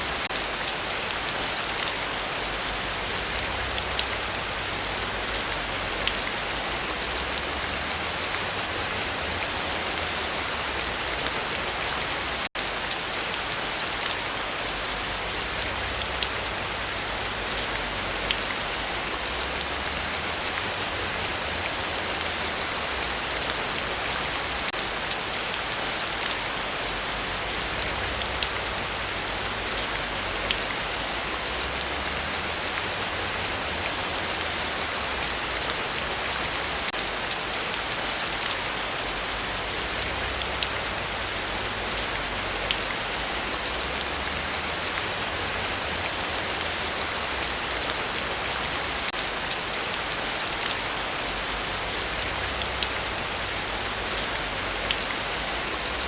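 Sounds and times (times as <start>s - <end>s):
heavy rain falling: 0.0s - 56.0s
rain drops ticking: 0.0s - 56.0s.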